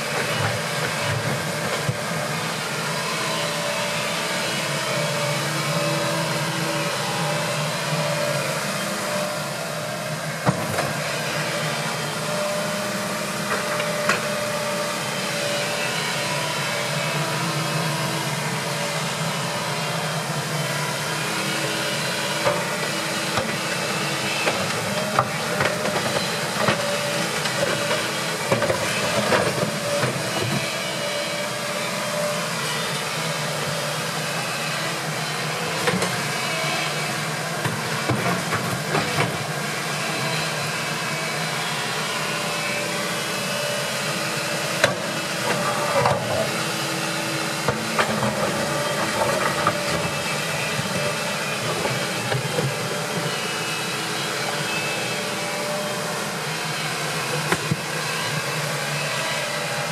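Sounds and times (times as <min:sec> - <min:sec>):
excavator diesel engine: 0:00.0 - 0:59.9
hydraulic whine: 0:00.0 - 0:59.9.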